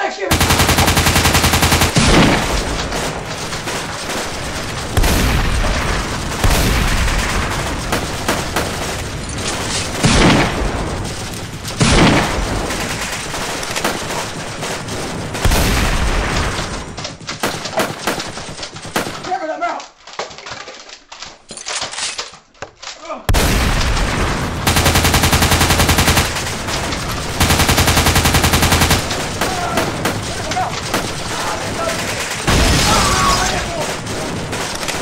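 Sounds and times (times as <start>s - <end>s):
heavy booming blasts: 0.3s - 17.0s, 23.3s - 35.0s
rapid gunfire: 0.3s - 19.6s, 23.3s - 35.0s.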